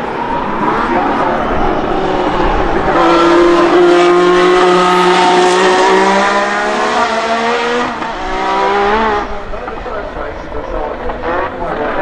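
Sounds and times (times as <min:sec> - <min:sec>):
racing car accelerating: 0:00.0 - 0:12.0.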